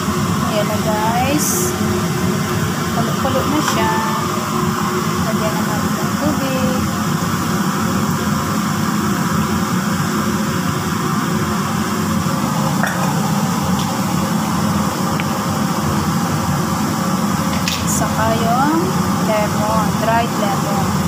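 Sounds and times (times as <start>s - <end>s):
constant low hum: 0.0s - 21.0s.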